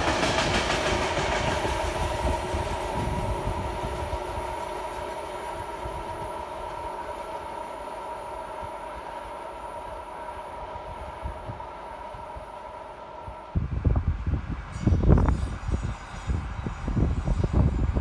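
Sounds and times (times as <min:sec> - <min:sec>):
electric train whine and rumble: 0:00.0 - 0:18.0.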